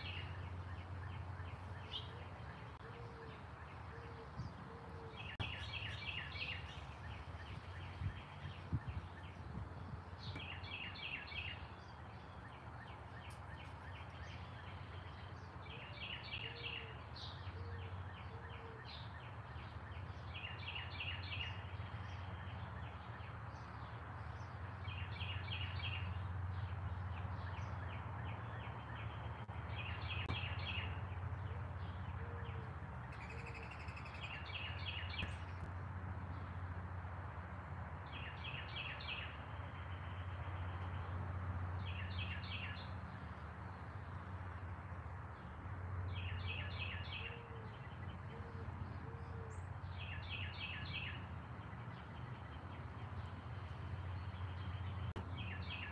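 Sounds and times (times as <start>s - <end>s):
songbird singing: 0.0s - 36.8s, 37.6s - 55.9s.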